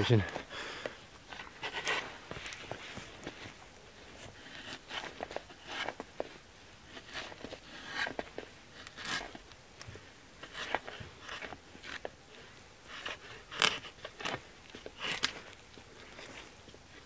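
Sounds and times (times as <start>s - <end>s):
knife shaving wood: 0.1s - 17.0s.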